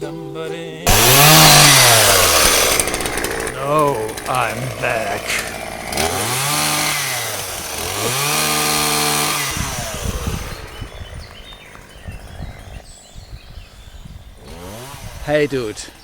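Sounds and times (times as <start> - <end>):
chainsaw low sputter: 0.9 - 16.0
chainsaw revving: 0.9 - 16.0.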